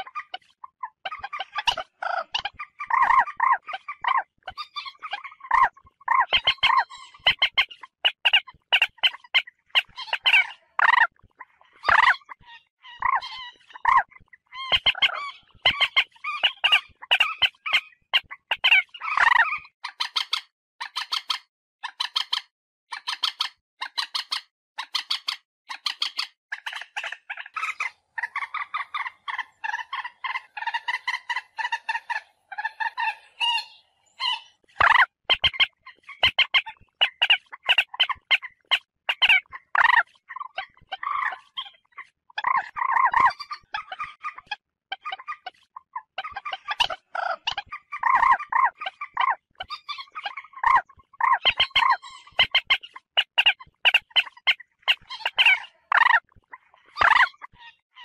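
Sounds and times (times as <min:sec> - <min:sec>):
moorhen calling: 0:01.1 - 0:11.1, 0:11.8 - 0:21.3, 0:27.5 - 0:44.4, 0:46.2 - 0:56.2, 0:57.0 - 0:57.4.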